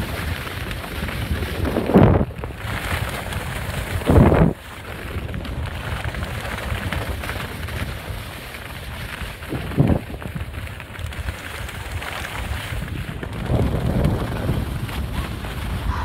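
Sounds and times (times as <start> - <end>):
skis sliding on snow: 0.0 - 16.0
wind buffeting microphone: 0.0 - 16.0.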